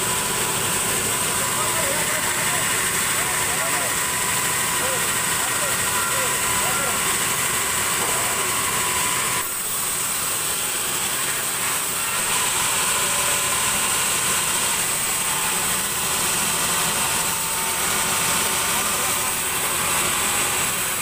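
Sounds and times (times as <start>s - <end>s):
sawmill machine drone with hiss: 0.0s - 21.0s.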